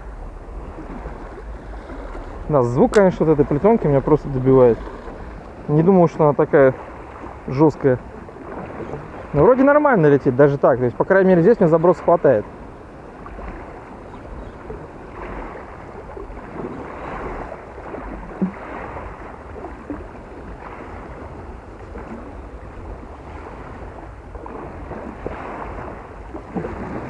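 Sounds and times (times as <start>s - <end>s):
small waves lapping: 0.0s - 27.0s
wind buffeting microphone: 0.0s - 27.0s.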